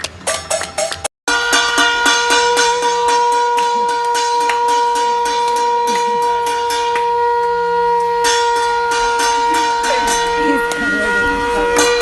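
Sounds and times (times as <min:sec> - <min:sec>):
rhythmic clapping and striking: 0:00.0 - 0:12.0
conch shell blown: 0:01.3 - 0:12.0.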